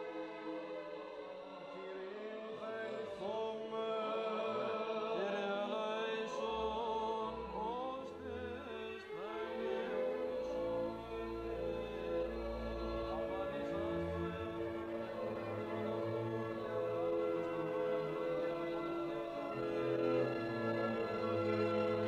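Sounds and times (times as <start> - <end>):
voices chanting a hymn: 0.0 - 22.0.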